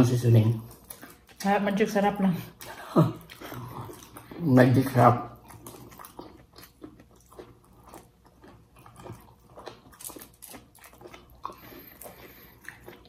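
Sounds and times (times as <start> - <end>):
people chewing wet smacks: 0.4 - 1.7, 2.4 - 13.0.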